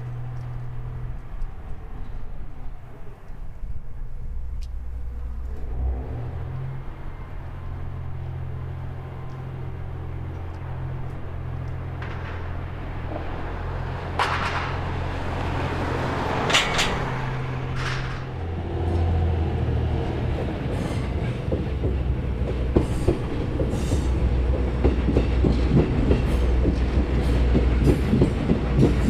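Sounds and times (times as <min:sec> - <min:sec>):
train clanks: 0:00.0 - 0:29.0
diesel engine humming: 0:04.4 - 0:29.0.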